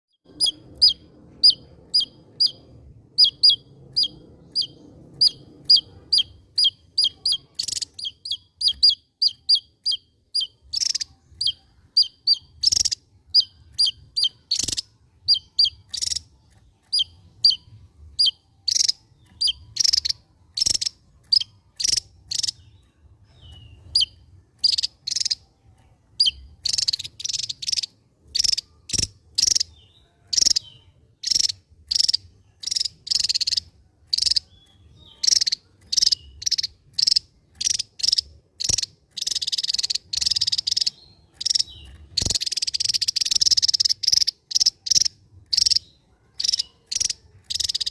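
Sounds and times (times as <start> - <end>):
bird singing sharp high chirps: 0.1 - 47.9.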